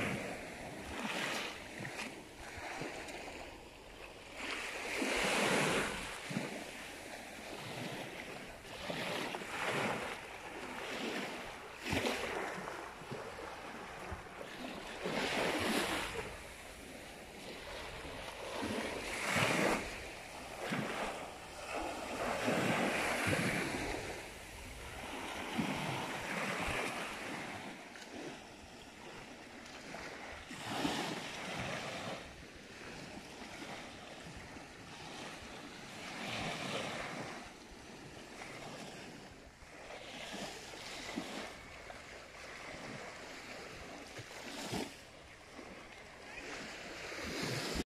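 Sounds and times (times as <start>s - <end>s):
small waves breaking on beach: 0.0s - 47.8s.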